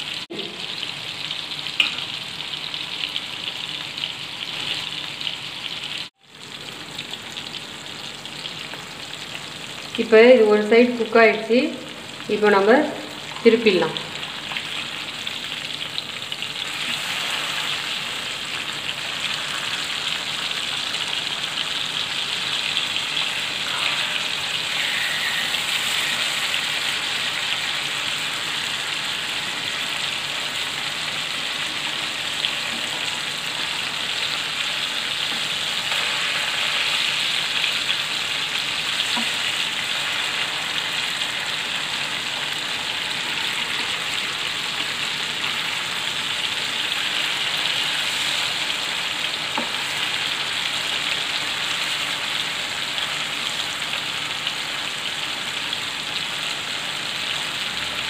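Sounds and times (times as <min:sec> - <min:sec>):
fish sizzling in oil: 0:00.0 - 0:58.0.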